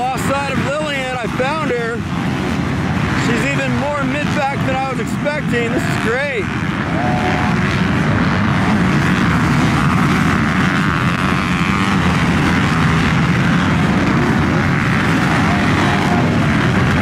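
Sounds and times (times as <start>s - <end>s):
dirt bike engines racing: 0.0s - 17.0s.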